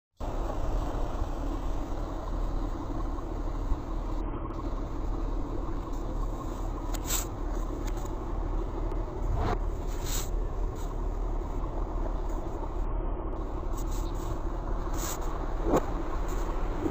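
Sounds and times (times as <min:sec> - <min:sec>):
boat engines rumbling: 0:00.2 - 0:16.9.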